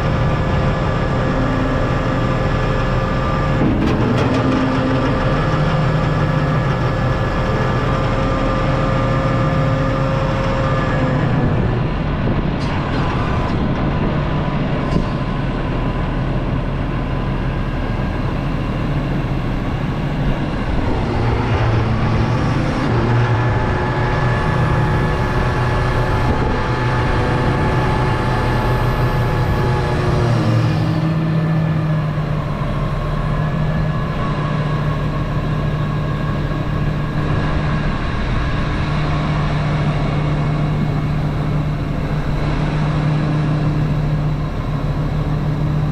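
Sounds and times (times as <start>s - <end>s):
large diesel engine running: 0.0s - 45.9s.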